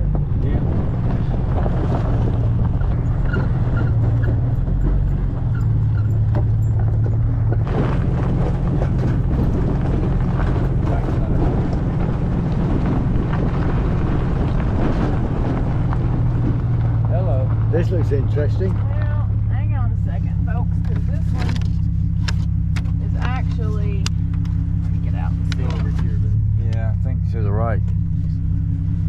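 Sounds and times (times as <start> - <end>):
car engine running at low revs: 0.0 - 29.0
car knocking and rattling: 0.0 - 29.0.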